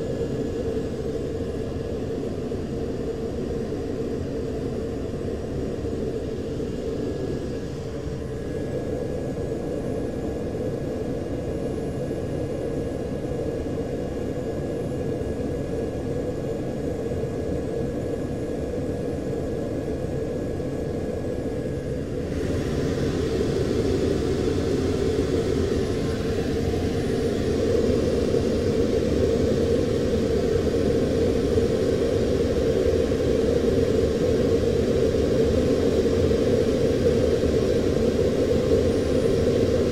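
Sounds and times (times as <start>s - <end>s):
airflow over canopy: 0.0s - 39.9s
jet engine rumble in cockpit: 0.0s - 39.9s.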